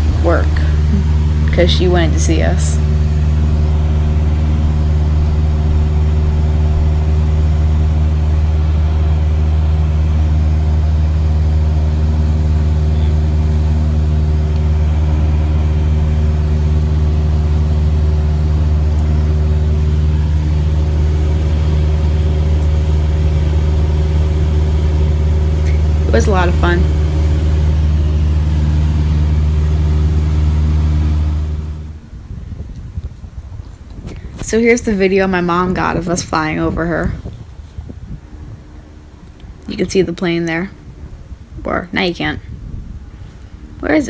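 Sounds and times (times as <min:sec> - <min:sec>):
light aircraft engine droning: 0:00.0 - 0:44.0.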